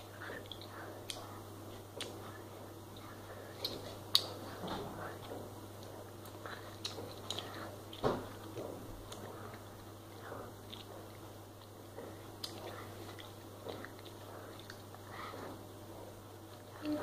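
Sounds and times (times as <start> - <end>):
child chewing: 0.0 - 17.0.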